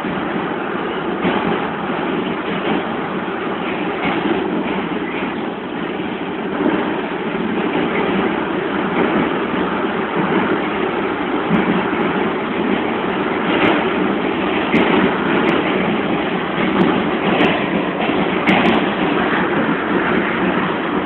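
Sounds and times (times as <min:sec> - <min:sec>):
subway car wheels rumbling: 0:00.0 - 0:21.0.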